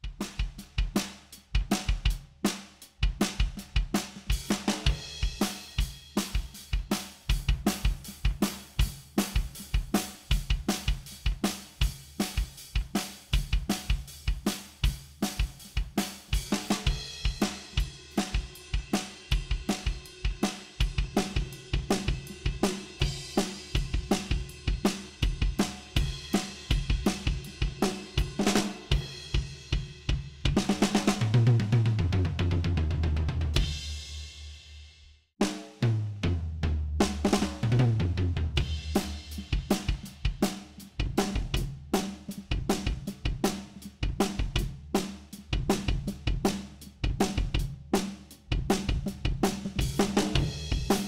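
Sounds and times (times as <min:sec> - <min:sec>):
drum kit groove: 0:00.0 - 0:51.0
tom fill: 0:00.1 - 0:51.0.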